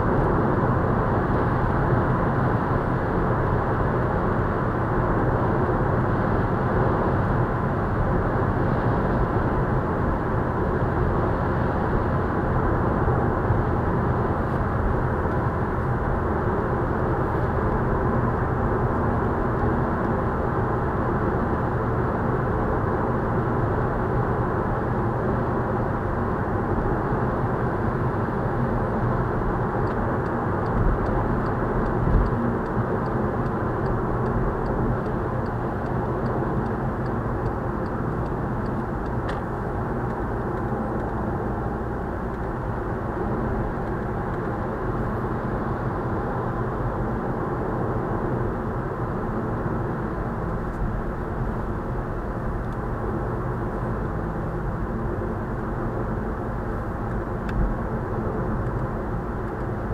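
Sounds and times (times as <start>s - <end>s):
tyre and road noise inside car: 0.0s - 59.9s.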